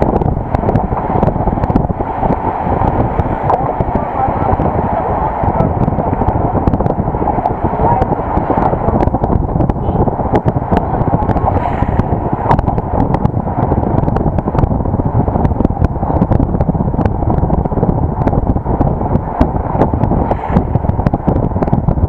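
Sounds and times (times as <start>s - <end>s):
road and engine noise: 0.0s - 22.0s
wind buffeting microphone: 0.0s - 22.0s.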